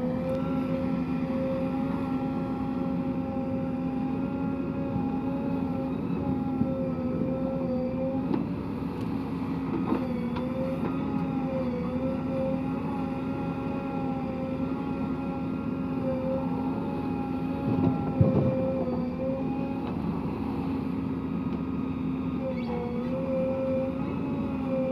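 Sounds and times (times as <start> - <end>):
heavy diesel machinery droning: 0.0 - 24.9.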